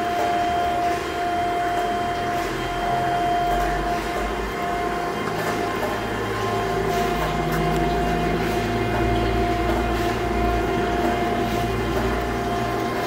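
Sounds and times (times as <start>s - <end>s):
grinder motor humming and whining: 0.0s - 13.0s.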